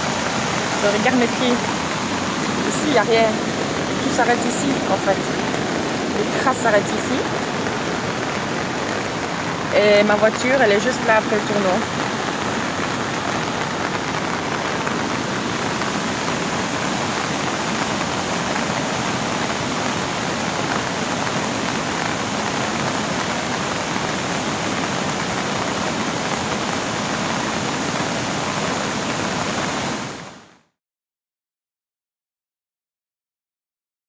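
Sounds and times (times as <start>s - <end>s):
heavy rain: 0.0s - 30.7s
running floodwater: 0.0s - 30.7s.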